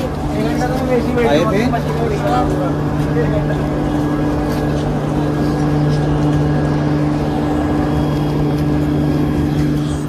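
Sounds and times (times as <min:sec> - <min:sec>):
constant rumble: 0:00.0 - 0:10.0
train low hum: 0:00.0 - 0:10.0.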